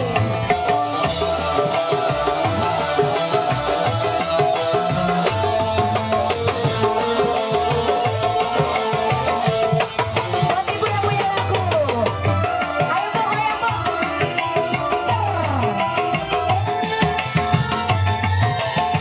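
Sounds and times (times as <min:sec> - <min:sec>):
electronic keyboard melody: 0:00.0 - 0:19.0
hand drums beat: 0:00.0 - 0:19.0.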